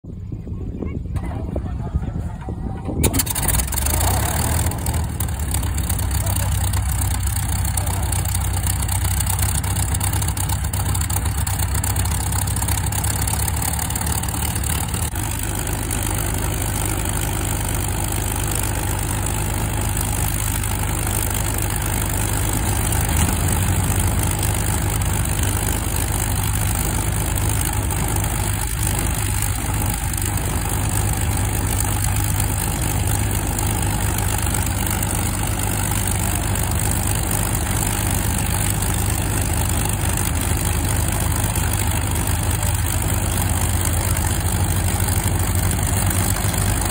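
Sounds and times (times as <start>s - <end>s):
piston aircraft engine idling: 1.0s - 46.9s.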